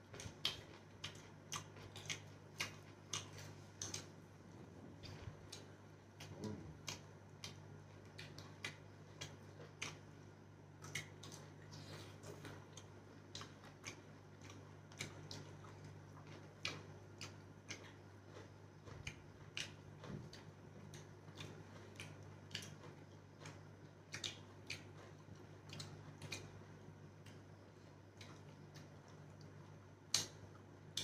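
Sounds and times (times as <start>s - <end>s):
low steady hum: 0.0s - 31.0s
people chewing and lip-smacking: 0.1s - 31.0s.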